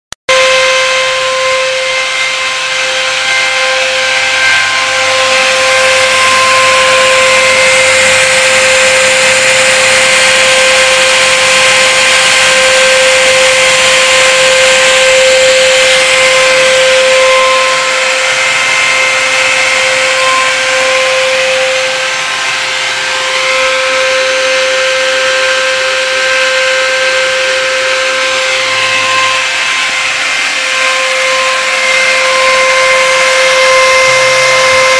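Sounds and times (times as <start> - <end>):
cutter milling plastic: 0.3 - 34.9
mill spindle high whine: 0.3 - 34.9.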